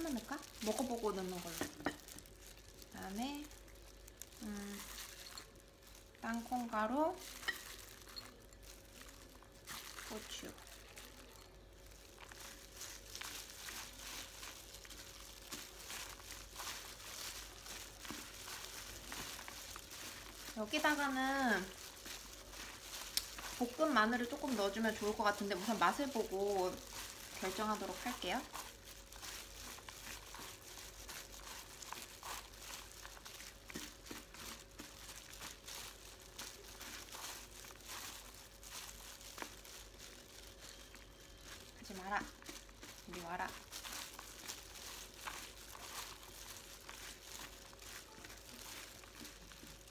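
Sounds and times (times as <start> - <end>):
crunchy food rustling: 0.0 - 49.9
plastic gloves crinkling: 0.0 - 49.9.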